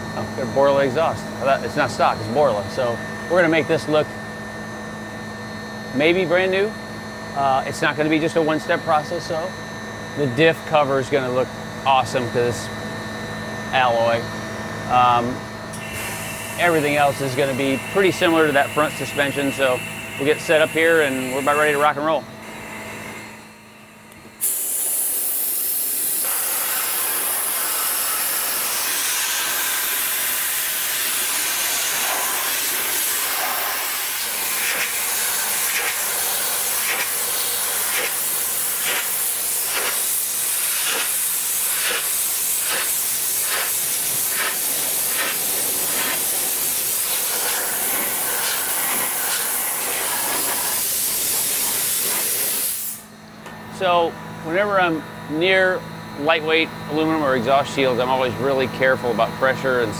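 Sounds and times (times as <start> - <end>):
dry ice blaster hissing: 0.0 - 5.0, 14.9 - 59.9.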